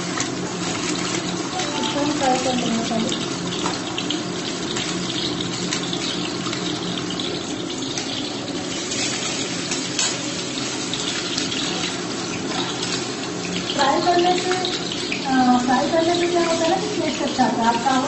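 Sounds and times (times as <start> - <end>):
eggs sizzling in hot oil: 0.0 - 18.0.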